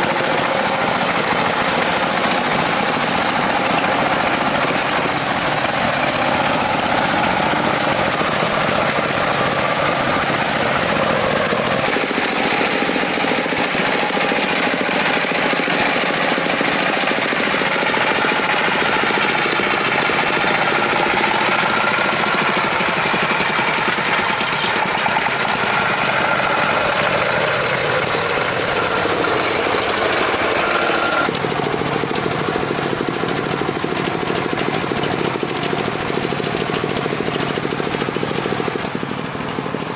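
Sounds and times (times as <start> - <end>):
truck engine knocking: 0.0 - 39.9.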